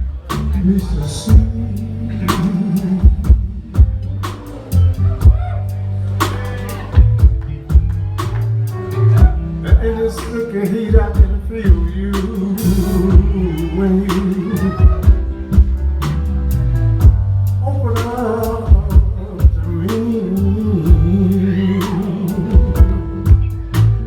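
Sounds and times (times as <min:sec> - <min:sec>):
blues band playing: 0:00.0 - 0:24.0
drum beat: 0:00.3 - 0:24.0.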